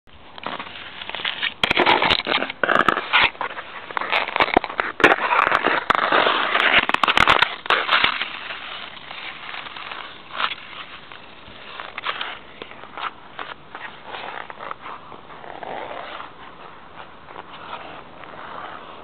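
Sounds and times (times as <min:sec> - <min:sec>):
ice skates scraping on ice: 0:00.4 - 0:19.0.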